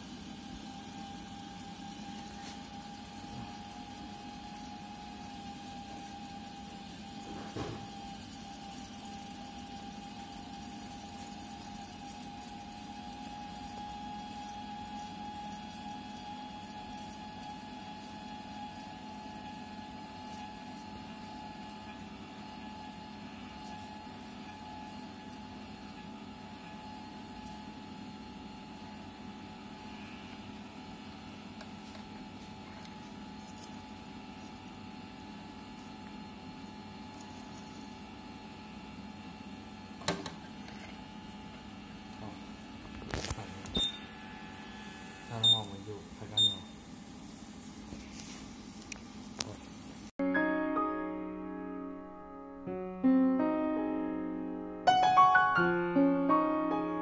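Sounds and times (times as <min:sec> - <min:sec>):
printer humming with whine: 0:00.0 - 0:50.1.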